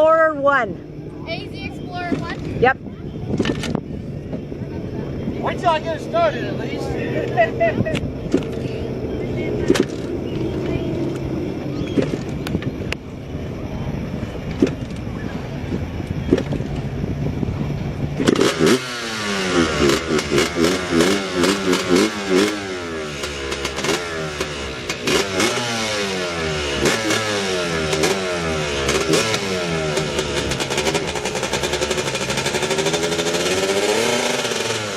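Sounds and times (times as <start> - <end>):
motorcycle engine revving: 0.0 - 34.9
steady low hum: 0.0 - 34.9.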